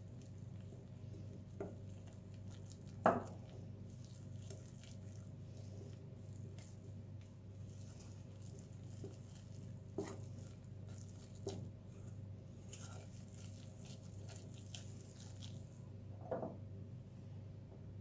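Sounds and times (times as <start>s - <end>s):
utensil stirring dough in bowl: 0.0s - 15.9s
low steady hum: 0.0s - 18.0s.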